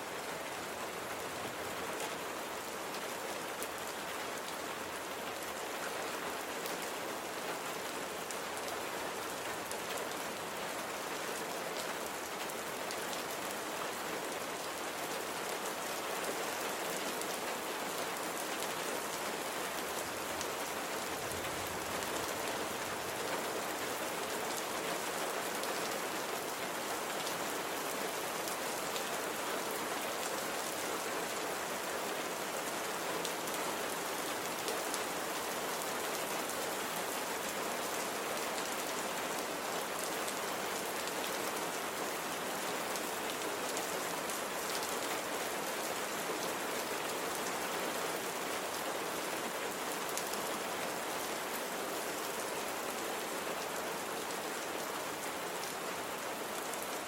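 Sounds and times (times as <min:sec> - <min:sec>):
rain pattering on a surface: 0:00.1 - 0:57.0.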